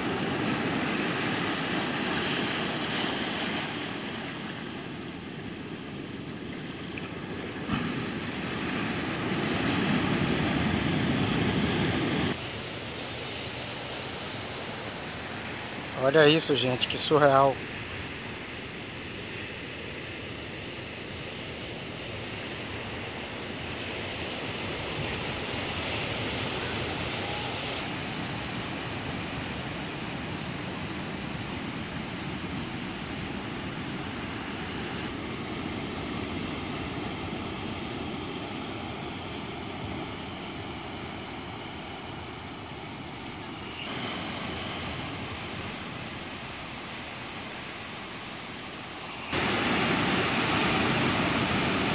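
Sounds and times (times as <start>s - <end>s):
heavy surf on rocky shore: 0.0s - 51.9s.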